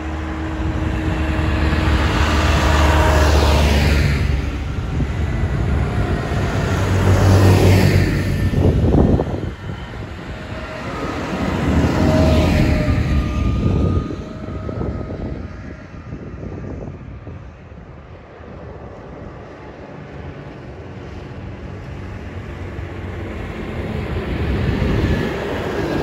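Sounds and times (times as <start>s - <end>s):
tractors driving past: 0.0s - 26.0s.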